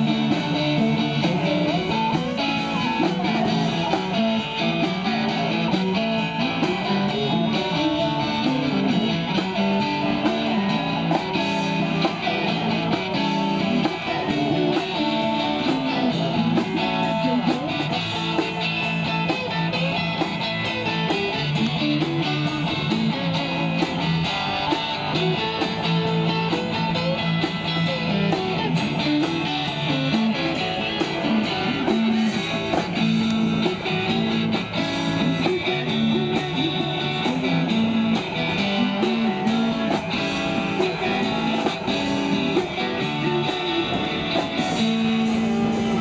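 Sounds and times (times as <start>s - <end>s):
drum kit: 0.0s - 46.0s
electric guitars: 0.0s - 46.0s.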